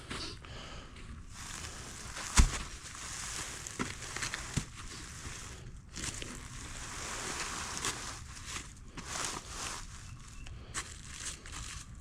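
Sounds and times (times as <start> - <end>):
rustling hiss: 1.3 - 11.8.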